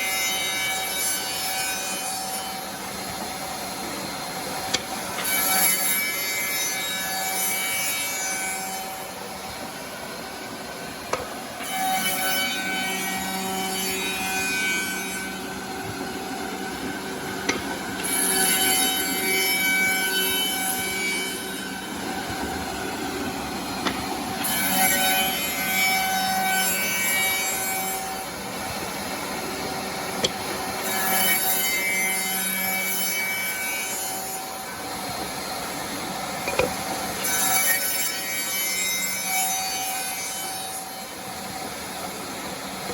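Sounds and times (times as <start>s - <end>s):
wood cutting noise: 0.0s - 42.9s.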